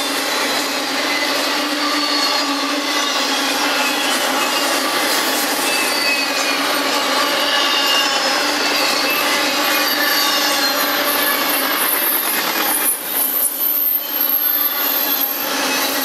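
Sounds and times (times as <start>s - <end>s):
faint high squealing: 0.0s - 16.0s
train wheels rushing on rail: 0.0s - 16.0s.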